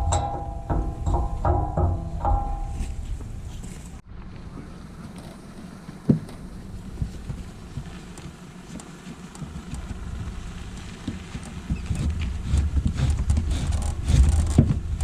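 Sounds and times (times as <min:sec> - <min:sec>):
water against boat: 0:00.0 - 0:15.0
wind: 0:00.0 - 0:15.0.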